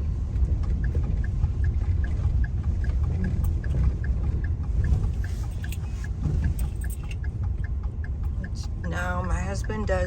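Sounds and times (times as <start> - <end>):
faint high ticking: 0.0 - 10.0
vehicle rumble from inside cabin: 0.0 - 10.0.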